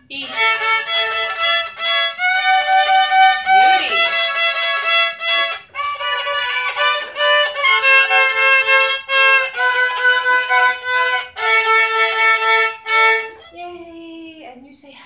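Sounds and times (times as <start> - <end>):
two violins playing slow tune: 0.0 - 13.6.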